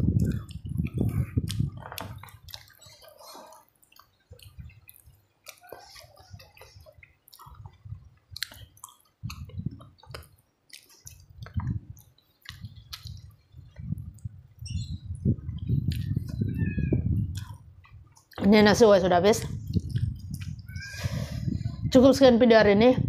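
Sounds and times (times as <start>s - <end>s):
wet chewing with mouth clicks: 0.1s - 18.5s, 19.4s - 20.8s.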